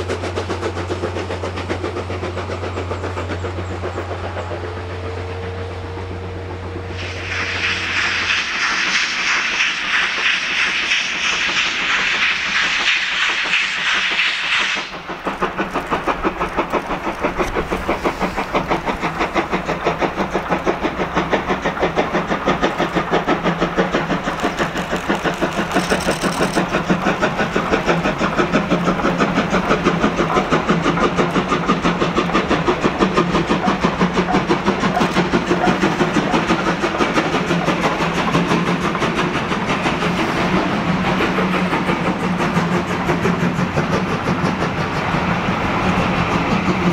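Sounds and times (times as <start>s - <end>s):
steam locomotive exhaust chuffing: 0.0s - 46.9s.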